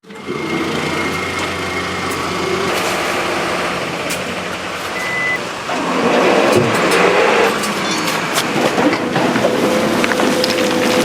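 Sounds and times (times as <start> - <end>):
construction machine engine running: 0.0 - 11.0.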